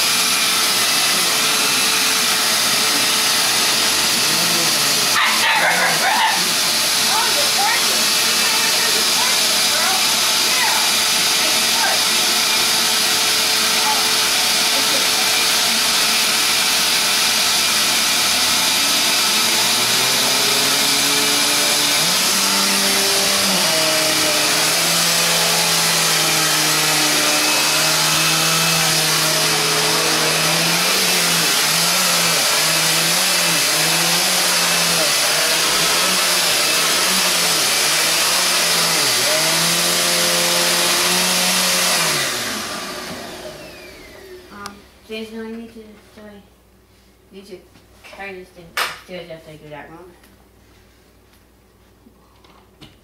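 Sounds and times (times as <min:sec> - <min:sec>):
vacuum cleaner running: 0:00.0 - 0:45.6.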